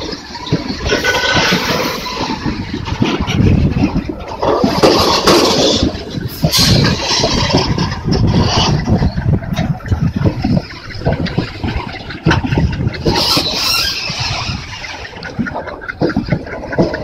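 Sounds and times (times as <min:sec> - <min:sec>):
clanks and rattles: 0:00.0 - 0:17.0
train wagons rumbling: 0:00.0 - 0:17.0.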